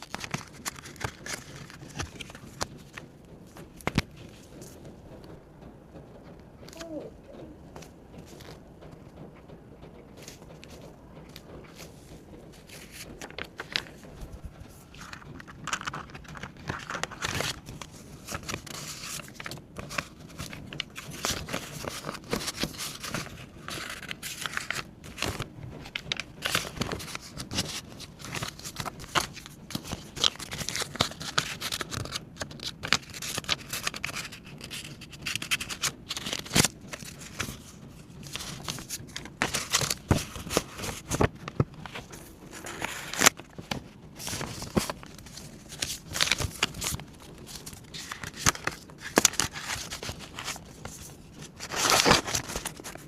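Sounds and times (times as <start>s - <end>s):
paper rustling and crinkling: 0.0s - 5.3s, 6.6s - 9.0s, 10.1s - 53.0s.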